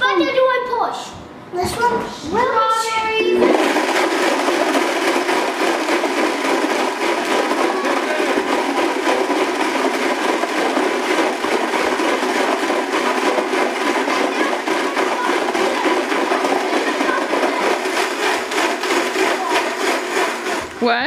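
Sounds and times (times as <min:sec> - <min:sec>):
blender running: 0:03.4 - 0:21.0.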